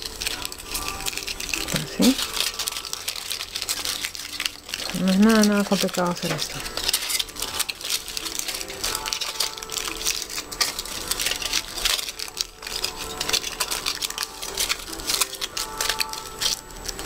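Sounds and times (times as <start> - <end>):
aluminium foil crinkling: 0.0 - 17.0
plastic sheet crackling: 0.0 - 17.0.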